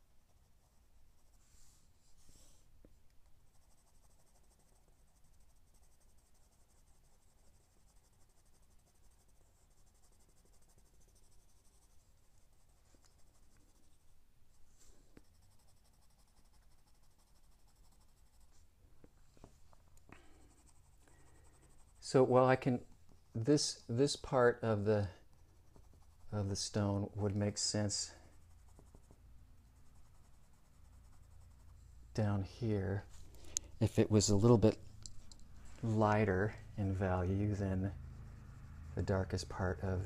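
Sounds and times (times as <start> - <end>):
pencil scratching on paper: 0.1 - 18.7, 20.2 - 33.1, 35.6 - 40.0.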